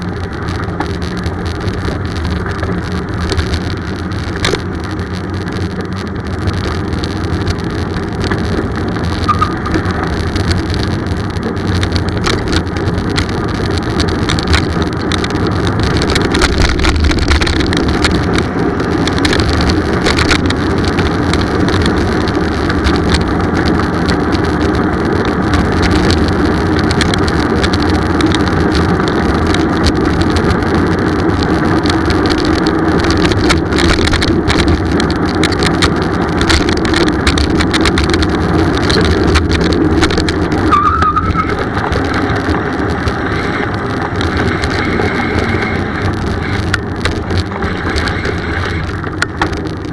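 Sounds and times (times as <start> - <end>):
bicycle clicks and rattles: 0.0 - 49.9
wind and road noise: 0.0 - 49.9.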